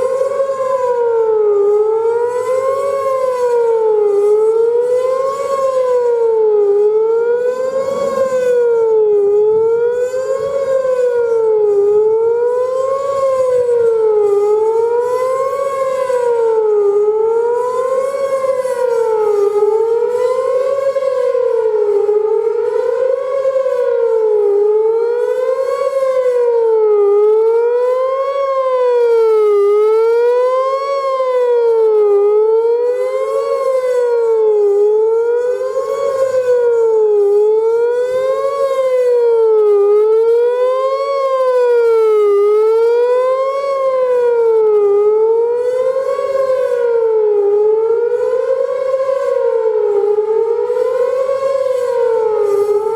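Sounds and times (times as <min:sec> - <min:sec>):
warning siren fast wail: 0:00.0 - 0:52.9.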